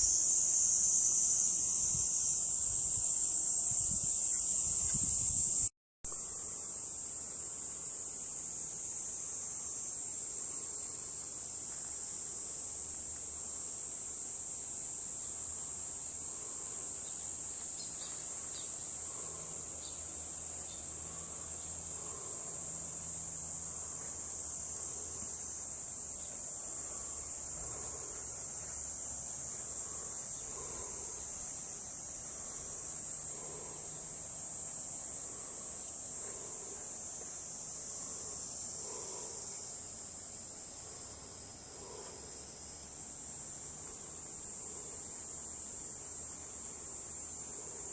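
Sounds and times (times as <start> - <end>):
insects buzzing: 0.0 - 47.9.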